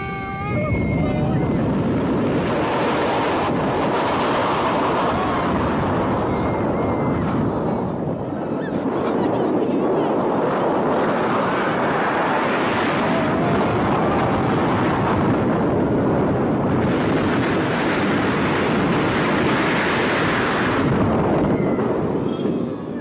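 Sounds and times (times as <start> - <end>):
loud rushing noise: 0.0 - 22.2.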